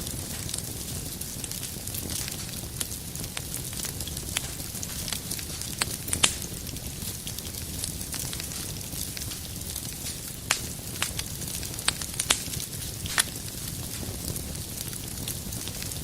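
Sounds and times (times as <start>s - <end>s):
fire low rushing: 0.0s - 16.0s
fire sharp pops: 0.0s - 16.0s.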